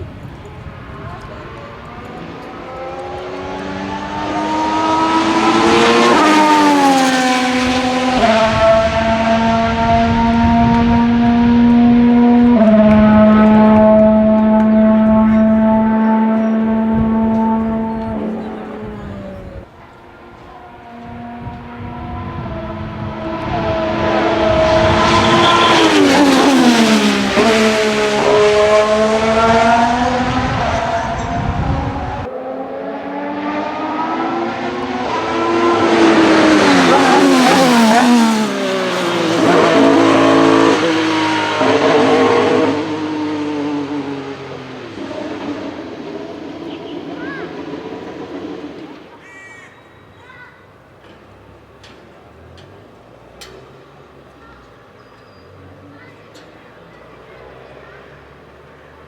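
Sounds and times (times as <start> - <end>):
racing car engine at full throttle: 0.0 - 49.2.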